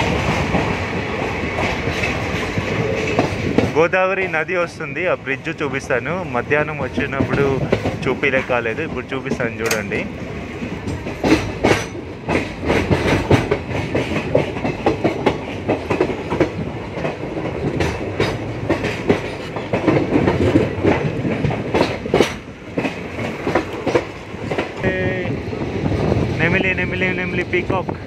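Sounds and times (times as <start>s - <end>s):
wheels clattering over rails: 0.0s - 3.9s, 6.1s - 26.5s
train wheels rumbling on track: 0.0s - 28.0s.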